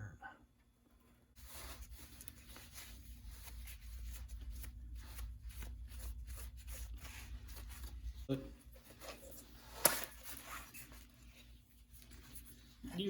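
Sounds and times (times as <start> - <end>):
rubbing and scuffing handling noises: 1.0 - 13.0.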